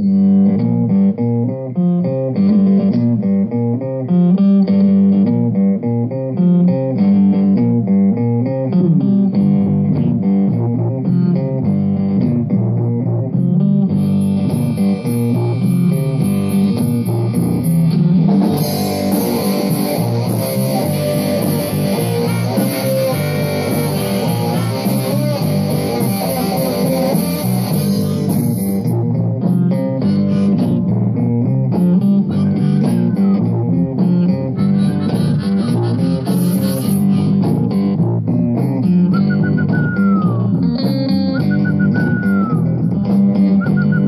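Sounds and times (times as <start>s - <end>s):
rock band electric guitars and bass: 0.0s - 44.0s.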